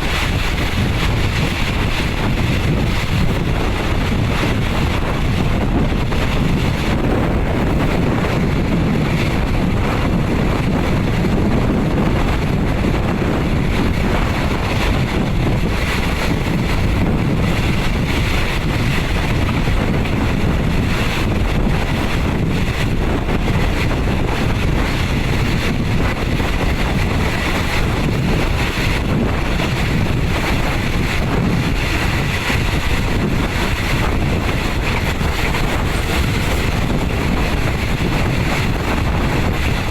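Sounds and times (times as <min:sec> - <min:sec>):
train rumbling on rails: 0:00.0 - 0:39.9
wind buffeting microphone: 0:00.0 - 0:39.9.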